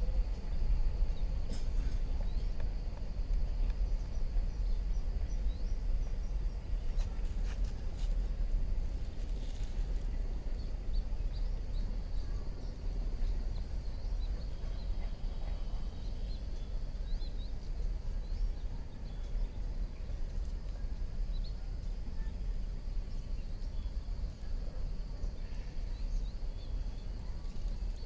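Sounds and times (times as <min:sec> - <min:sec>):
insect drone: 0:00.0 - 0:28.0
small birds chirping: 0:00.0 - 0:28.0
steady low rumble: 0:00.0 - 0:28.0.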